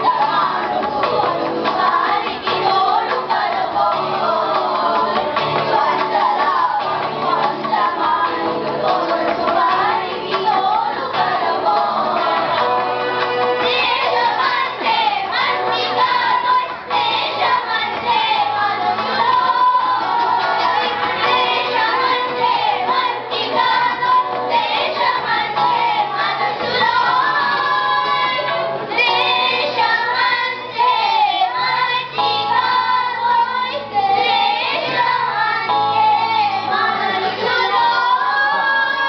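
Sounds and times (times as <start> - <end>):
children singing: 0.0 - 39.0.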